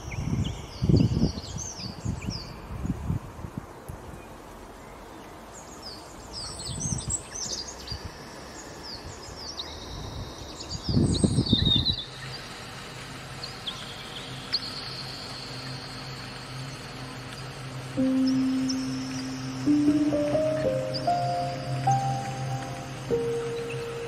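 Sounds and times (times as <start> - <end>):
songbirds chirping: 3.9 - 24.0.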